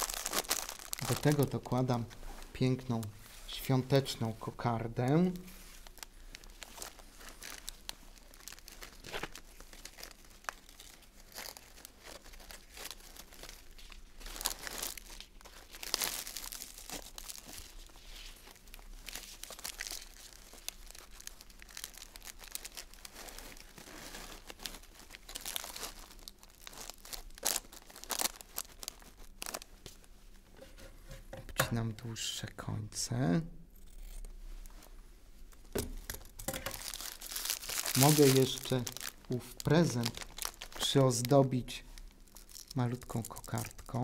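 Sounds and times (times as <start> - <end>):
cellophane crinkling: 0.0 - 30.1, 34.6 - 44.0.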